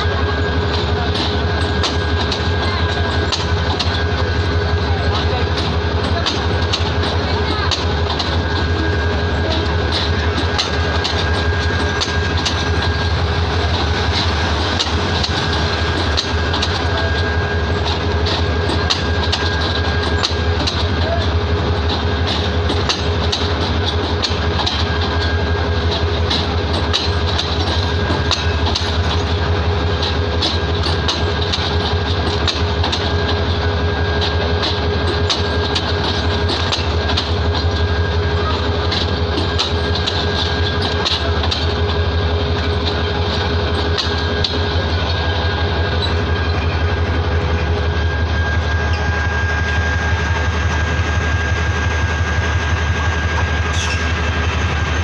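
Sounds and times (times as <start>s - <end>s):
thin steady whine: 0.0s - 55.0s
train rumble: 0.0s - 55.0s
train wheels clicking over rail joints: 0.0s - 55.0s.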